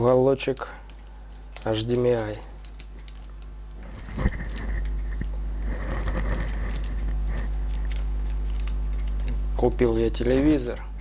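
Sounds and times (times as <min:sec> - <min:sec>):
packaging handling clicks and crackle: 0:00.4 - 0:05.3, 0:05.9 - 0:10.3.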